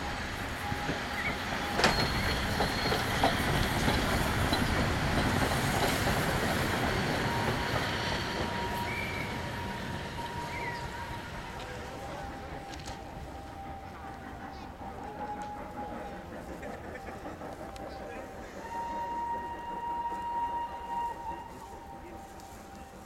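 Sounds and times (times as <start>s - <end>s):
steam locomotive wheels rumbling: 0.0s - 23.0s.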